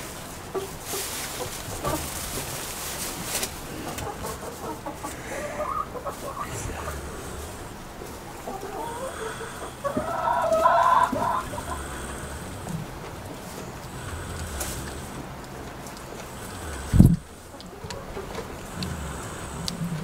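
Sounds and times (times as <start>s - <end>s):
chicken clucking: 0.4s - 20.0s.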